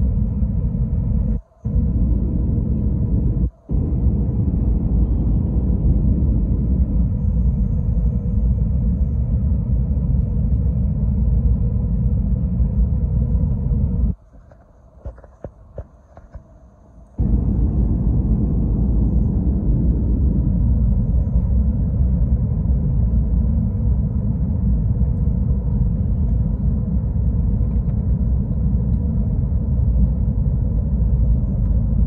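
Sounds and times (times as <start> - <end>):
airplane cabin engine rumble: 0.0 - 32.0.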